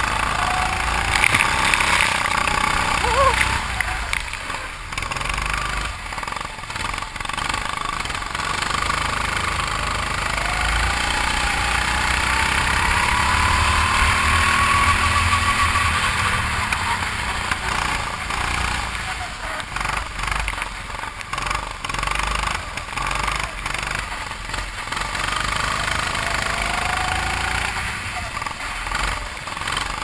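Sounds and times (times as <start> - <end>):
go-kart engine running hard: 0.0 - 30.0.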